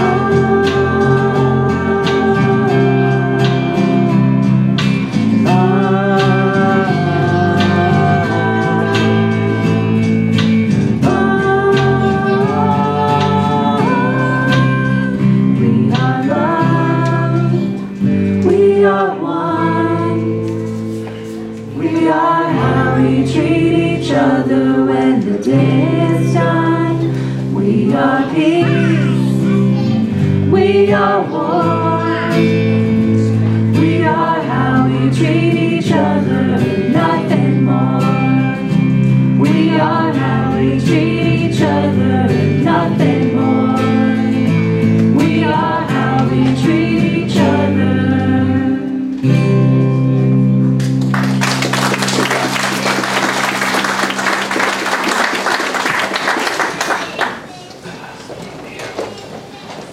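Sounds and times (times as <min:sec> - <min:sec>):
lead singer singing: 0:00.0 - 0:20.5, 0:21.6 - 0:49.2
group of voices singing: 0:00.0 - 0:49.2
electric guitars: 0:00.0 - 0:57.2.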